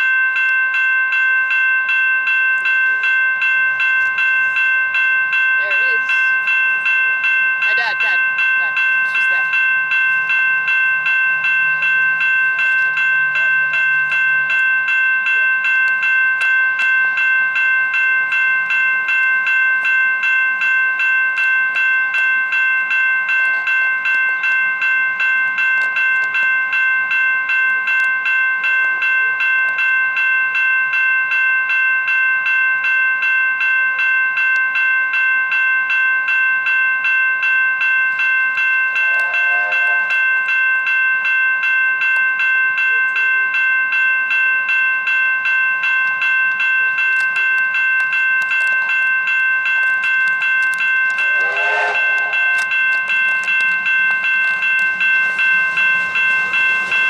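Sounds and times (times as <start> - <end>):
level crossing warning bell: 0.0 - 57.0.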